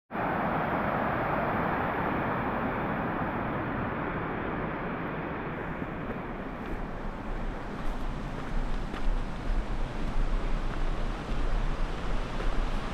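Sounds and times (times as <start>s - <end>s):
waterfall rushing water: 0.2s - 12.9s.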